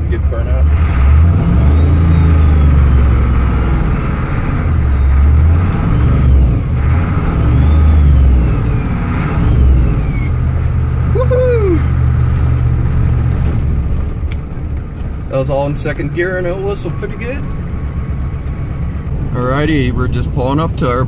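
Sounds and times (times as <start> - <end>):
diesel engine rumble accelerating: 0.0 - 21.0
turbo whistling: 0.8 - 17.8.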